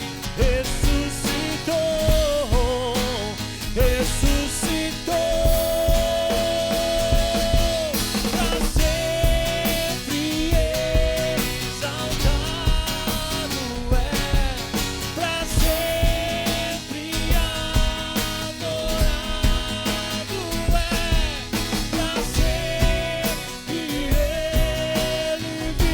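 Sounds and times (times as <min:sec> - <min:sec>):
band playing rock music: 0:00.0 - 0:25.9
drum kit beat: 0:00.0 - 0:25.9.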